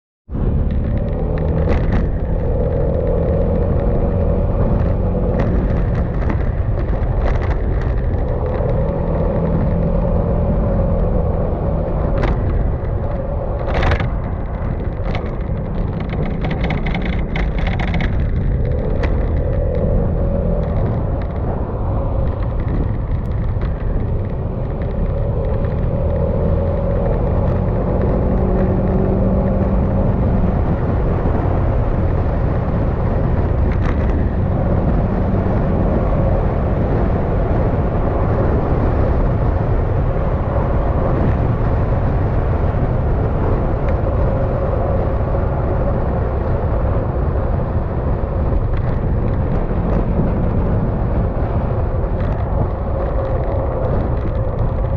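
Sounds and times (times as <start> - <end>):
road noise: 0.3 - 54.9
wind noise: 0.3 - 54.9.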